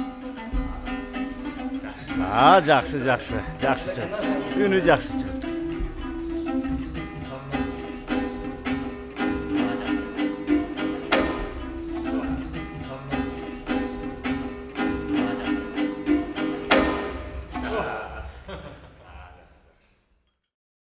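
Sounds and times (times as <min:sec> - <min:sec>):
lute strummed: 0:00.0 - 0:18.2.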